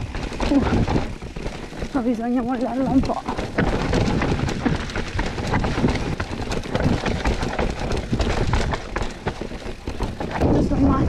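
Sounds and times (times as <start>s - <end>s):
bike clattering over rocks: 0.0s - 11.0s
steady low rumble: 0.0s - 11.0s.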